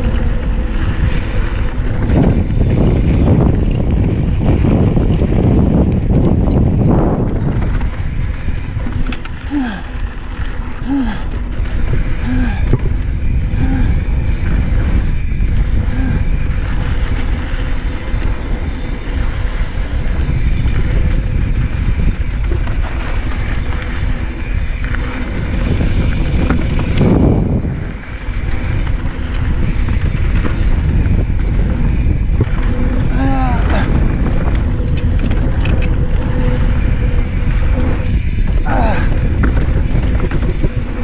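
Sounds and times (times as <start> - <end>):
bike rattling over bumps: 0.0 - 41.0
bike tyres rumbling on dirt: 0.0 - 41.0
wind on microphone: 0.0 - 41.0.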